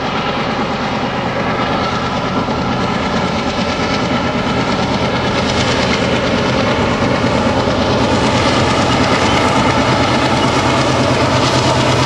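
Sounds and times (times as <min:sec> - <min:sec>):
diesel locomotive engine hum: 0:00.0 - 0:12.0
train wheels on rails: 0:00.0 - 0:12.0.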